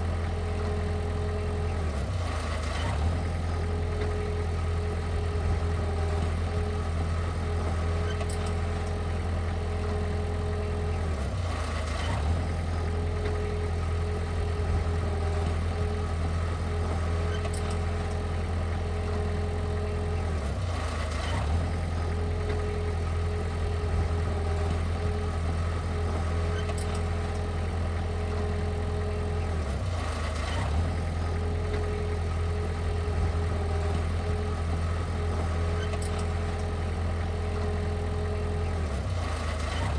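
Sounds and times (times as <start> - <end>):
heavy machine engine humming: 0.0 - 39.9.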